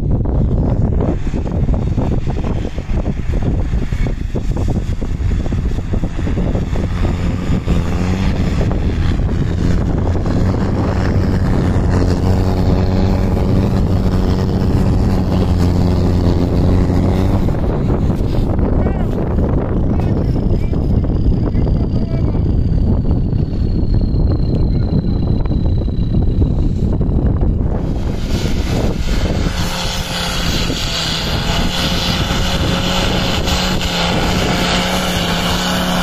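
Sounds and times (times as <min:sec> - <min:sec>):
car engine under load: 0:00.0 - 0:36.0
wind on microphone: 0:00.0 - 0:36.0.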